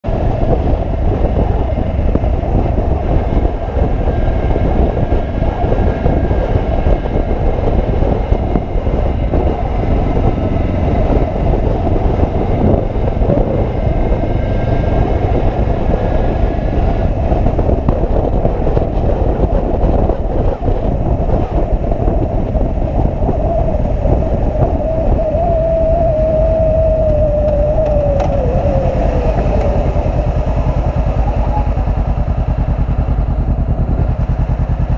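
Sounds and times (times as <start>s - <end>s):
motorcycle engine: 0.0s - 34.9s
wind and road noise: 0.0s - 34.9s.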